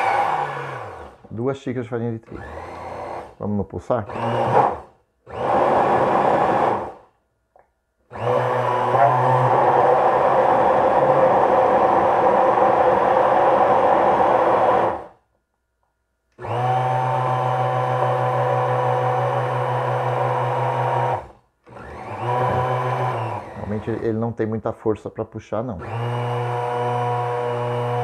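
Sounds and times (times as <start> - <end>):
blender churning thick batter: 0.0 - 1.5, 2.2 - 7.2, 8.1 - 15.2, 16.4 - 24.3, 25.8 - 28.0.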